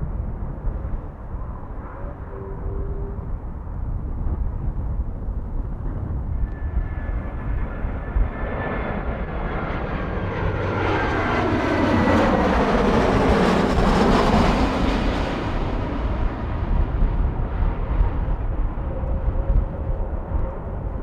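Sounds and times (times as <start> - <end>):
jet airliner passing: 0.0 - 21.0
wind rumble on microphone: 0.0 - 21.0.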